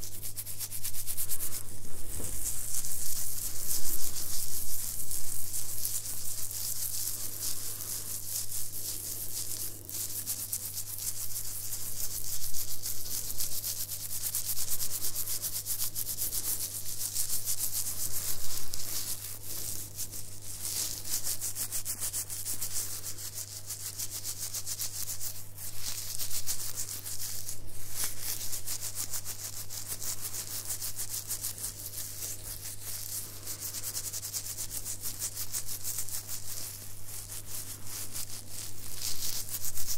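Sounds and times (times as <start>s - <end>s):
faint low hum: 0.0s - 39.9s
fingers scratching beard: 0.0s - 39.9s.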